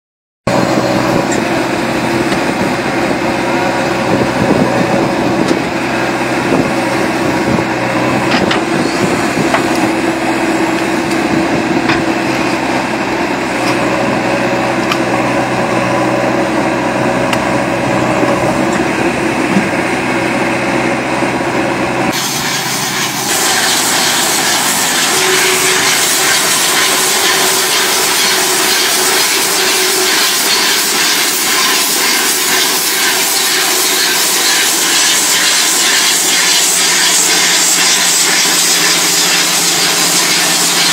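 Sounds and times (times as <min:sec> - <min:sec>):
diesel engines running: 0:00.5 - 0:40.9
hissing machine noise: 0:00.5 - 0:40.9.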